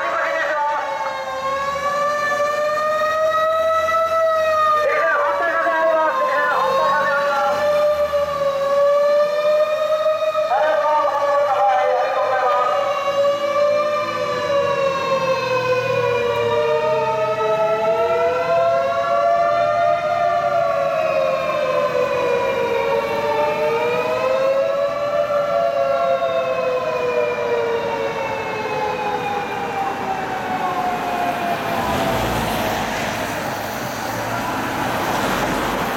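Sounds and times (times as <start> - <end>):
fire engine sirens wailing: 0.0 - 35.9.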